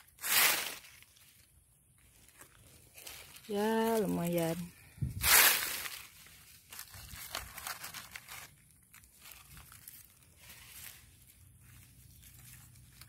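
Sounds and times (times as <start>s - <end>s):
dry leaves crackling under a hand: 0.0s - 13.0s.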